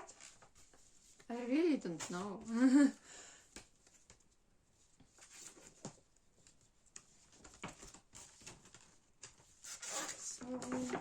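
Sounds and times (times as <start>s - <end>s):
paper posters rustling: 0.0s - 3.0s, 3.7s - 11.0s.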